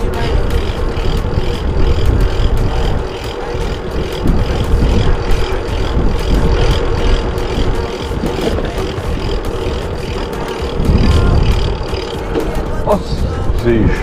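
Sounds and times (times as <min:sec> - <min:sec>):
bike riding over path: 0:00.0 - 0:14.0
fast high ticking: 0:00.0 - 0:14.0
wind buffeting microphone: 0:00.0 - 0:14.0.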